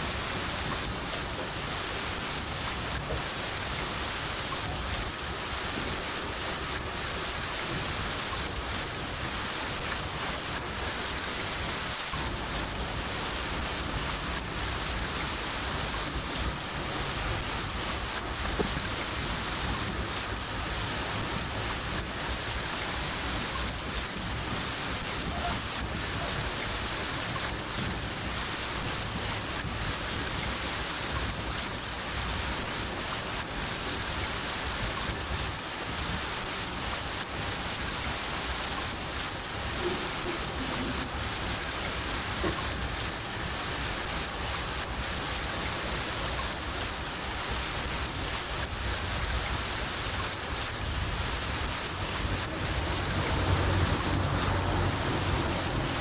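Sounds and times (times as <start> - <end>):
cricket chirping: 0.0 - 56.0
rain hiss: 0.0 - 56.0.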